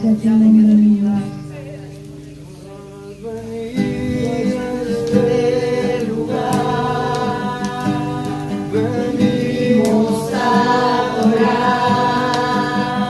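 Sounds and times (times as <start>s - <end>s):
acoustic guitar: 0.0s - 13.0s
voices singing: 1.4s - 13.0s.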